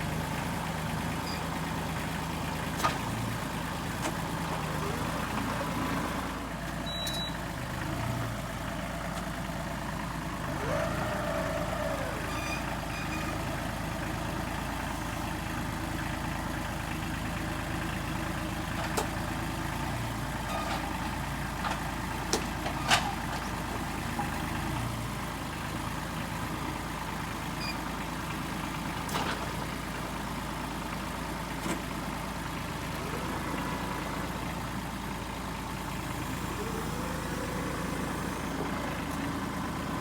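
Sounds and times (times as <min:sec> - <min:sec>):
small tractor engine running: 0:00.0 - 0:40.0.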